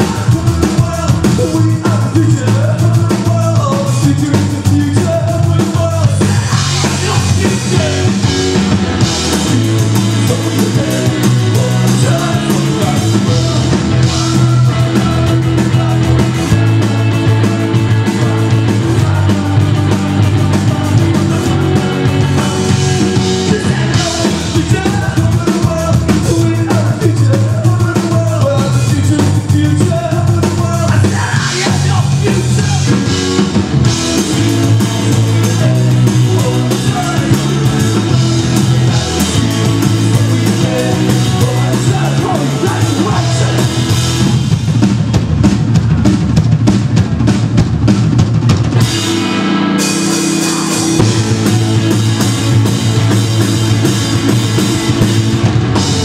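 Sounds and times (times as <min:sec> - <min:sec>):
bass drum thumps: 0:00.0 - 0:49.2, 0:50.5 - 0:56.0
live rock band playing: 0:00.0 - 0:56.0.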